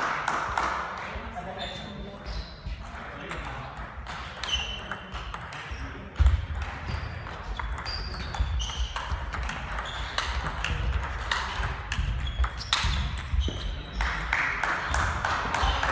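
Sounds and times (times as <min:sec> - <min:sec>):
table tennis balls clicking: 0:02.8 - 0:15.9.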